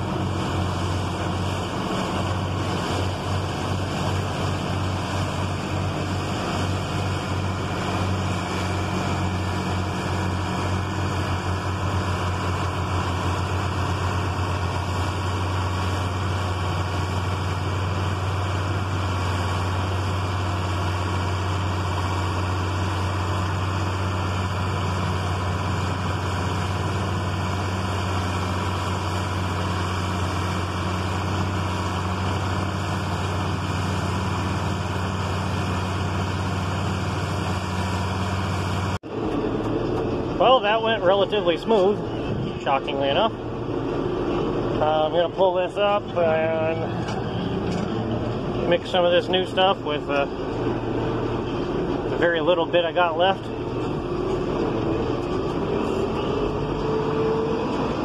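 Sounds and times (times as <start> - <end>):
tractor engine drone: 0.0 - 58.0.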